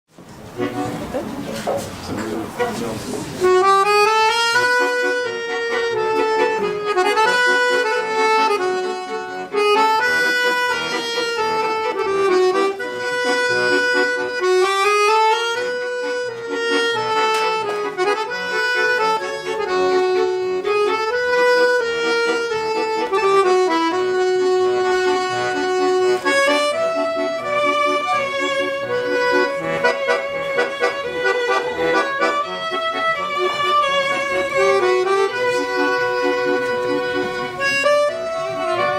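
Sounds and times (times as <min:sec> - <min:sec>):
accordion music: 0:00.2 - 0:38.9.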